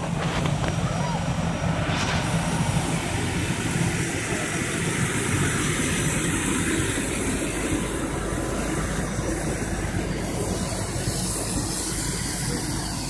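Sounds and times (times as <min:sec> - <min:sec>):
diesel engine rumbling with hiss: 0:00.0 - 0:13.0.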